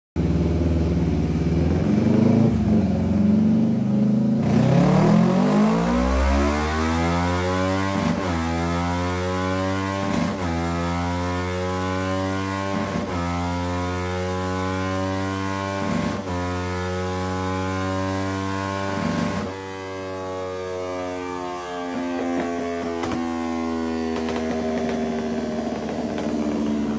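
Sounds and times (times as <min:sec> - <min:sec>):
motorcycle engine revving: 0:00.2 - 0:26.9.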